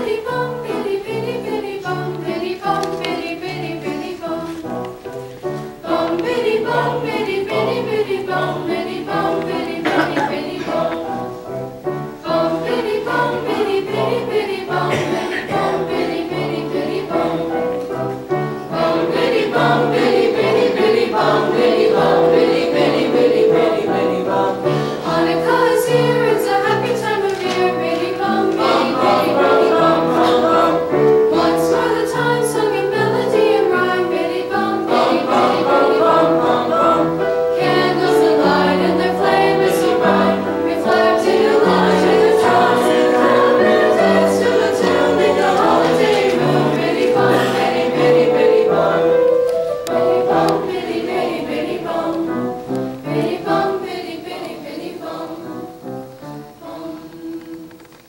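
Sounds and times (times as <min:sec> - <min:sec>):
piano accompaniment: 0:00.0 - 0:57.8
choir singing in parts: 0:00.0 - 0:58.0.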